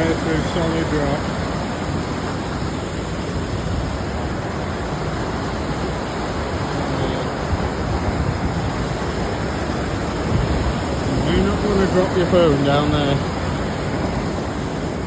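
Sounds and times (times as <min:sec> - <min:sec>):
river water rushing through gorge: 0:00.0 - 0:15.0.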